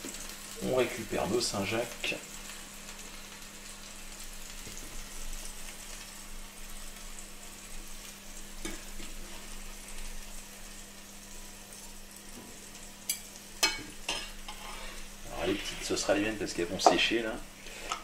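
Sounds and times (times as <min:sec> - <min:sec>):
butter sizzling in pan: 0:00.0 - 0:18.0.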